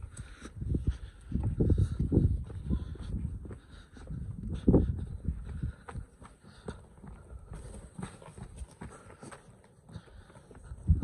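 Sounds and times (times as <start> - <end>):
footsteps on stony snowy path: 0.0 - 11.0.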